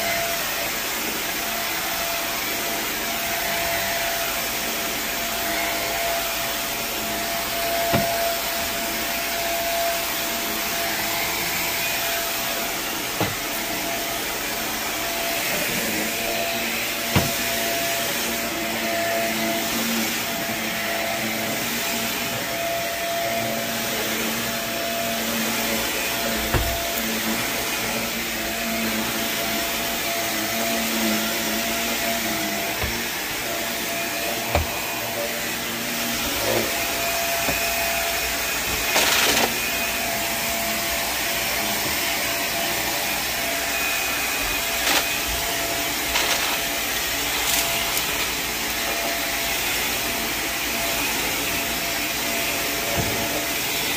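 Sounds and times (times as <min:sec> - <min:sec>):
carpet cleaner vacuum running: 0:00.0 - 0:53.9.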